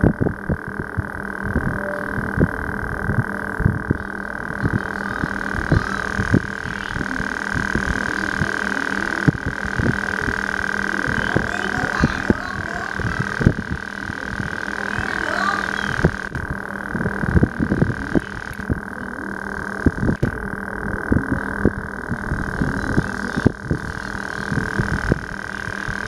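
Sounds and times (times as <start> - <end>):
high-pitched hum: 0.0 - 26.0.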